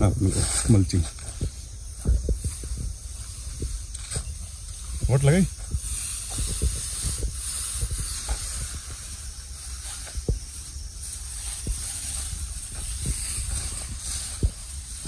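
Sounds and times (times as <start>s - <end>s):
steady high-pitched hiss: 0.0s - 15.0s.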